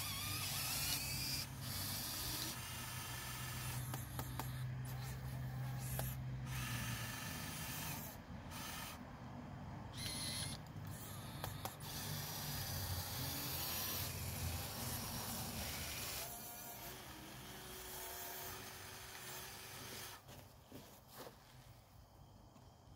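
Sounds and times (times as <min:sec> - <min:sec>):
toy electric motors whirring: 0:00.0 - 0:09.1, 0:09.9 - 0:20.9.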